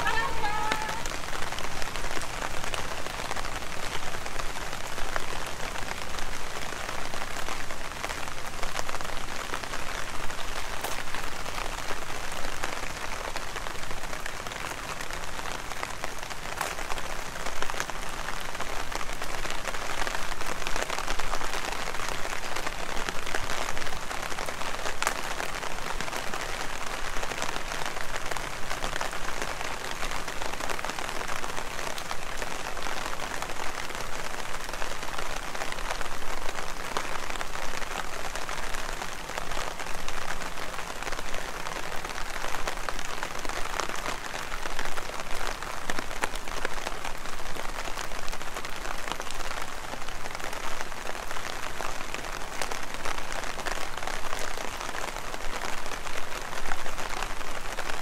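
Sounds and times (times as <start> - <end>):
heavy rain hissing: 0.0 - 58.0
raindrops ticking close by: 0.0 - 58.0.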